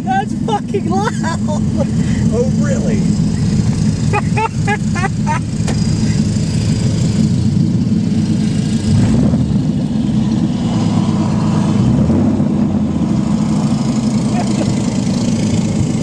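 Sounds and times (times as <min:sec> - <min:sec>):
car engine raw rumble: 0:00.0 - 0:16.0.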